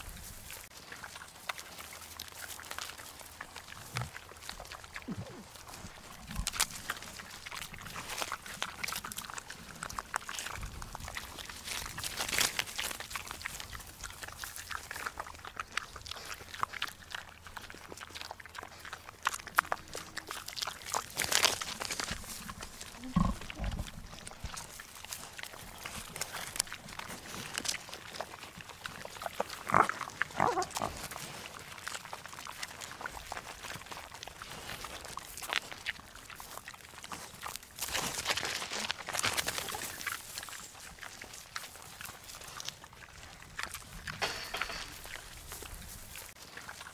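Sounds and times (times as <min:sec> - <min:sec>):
monkey chewing with crunching: 0:00.0 - 0:46.9.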